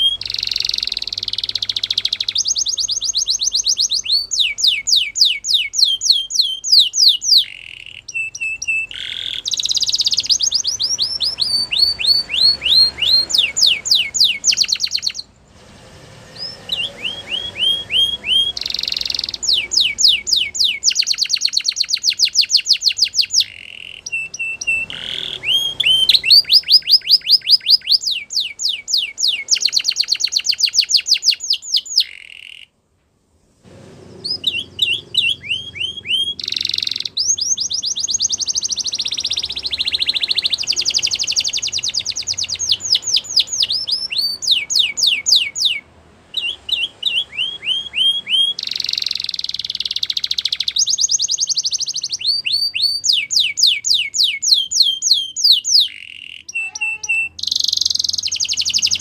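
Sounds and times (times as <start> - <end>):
canary singing rapid trills: 0.0 - 15.4, 16.3 - 32.7, 34.2 - 59.0.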